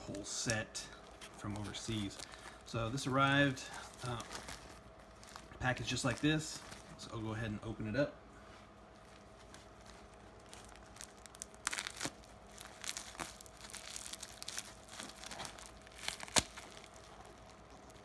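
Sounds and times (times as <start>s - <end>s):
plastic packaging tearing and crinkling: 0.0s - 7.0s, 9.2s - 18.0s.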